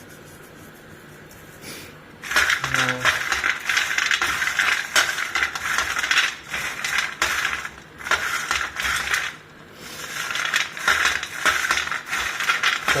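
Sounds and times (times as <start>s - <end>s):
almonds clattering in a dish: 2.2s - 13.0s.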